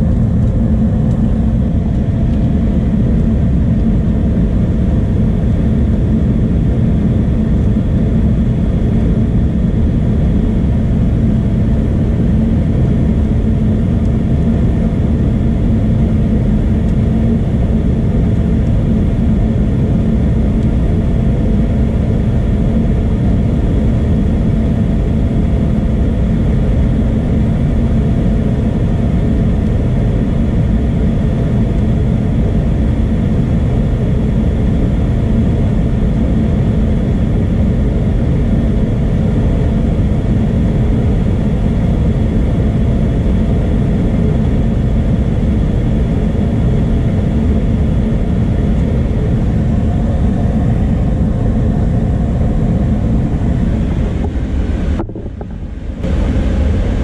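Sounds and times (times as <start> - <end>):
gas furnace rumbling: 7.8 - 57.0.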